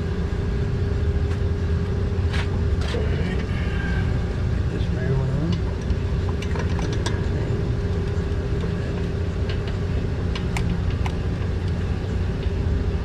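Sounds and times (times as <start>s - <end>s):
machinery rumble and hum: 0.0s - 13.0s.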